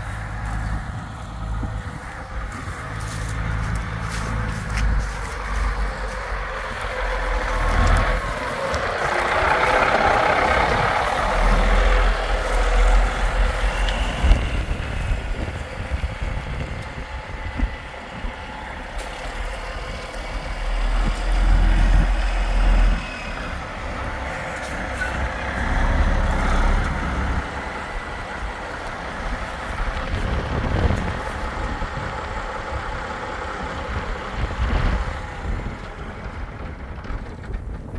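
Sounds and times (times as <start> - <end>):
truck diesel engine running: 0.0 - 37.9
wind on microphone: 0.0 - 37.9.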